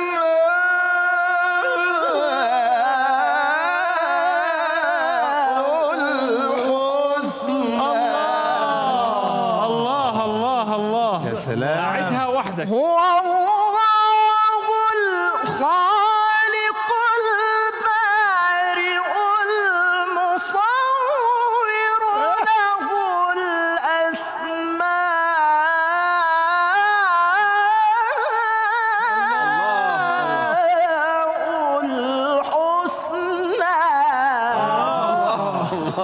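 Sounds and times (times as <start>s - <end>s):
man reciting melodically: 0.0s - 36.0s.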